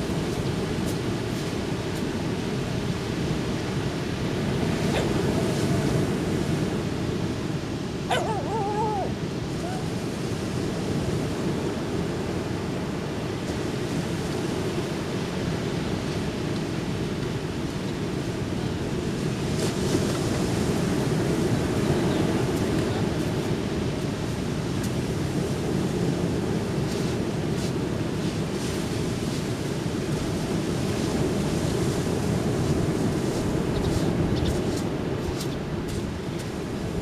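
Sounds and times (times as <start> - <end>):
waves on a beach: 0.0 - 37.0.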